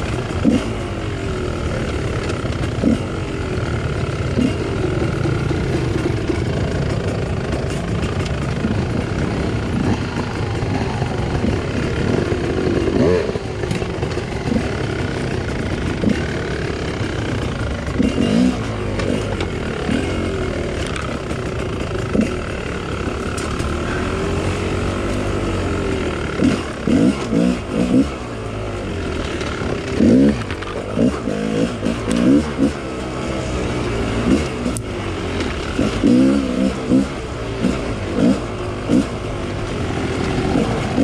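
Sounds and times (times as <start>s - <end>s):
two-stroke dirt bike engine revving: 0.0s - 41.0s.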